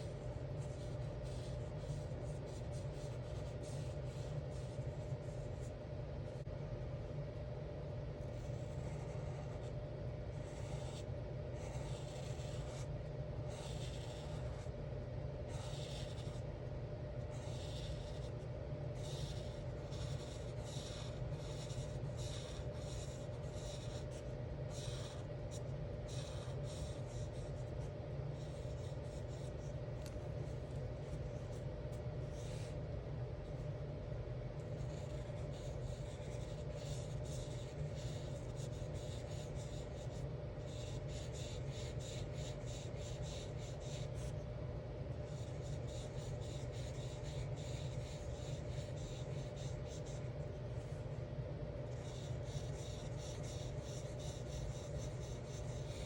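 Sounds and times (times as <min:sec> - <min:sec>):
marker scratching on paper: 0:00.0 - 0:06.5, 0:08.2 - 0:14.8, 0:15.4 - 0:16.5, 0:17.2 - 0:33.7, 0:34.6 - 0:44.4, 0:45.2 - 0:51.1, 0:51.8 - 0:56.0
steady low hum: 0:00.0 - 0:56.0.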